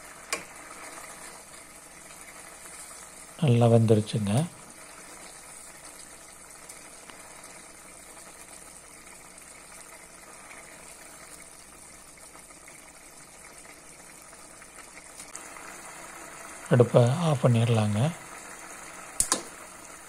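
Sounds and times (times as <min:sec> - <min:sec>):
curry bubbling in a pan: 0:00.0 - 0:20.0.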